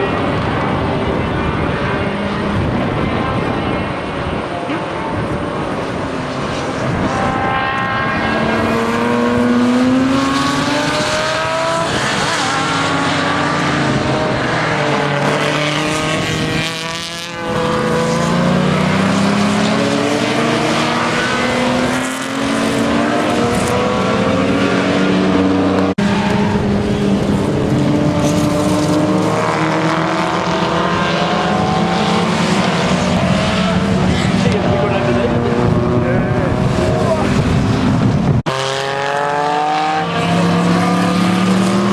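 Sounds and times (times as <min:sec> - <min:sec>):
sports car engines revving: 0:00.0 - 0:41.9.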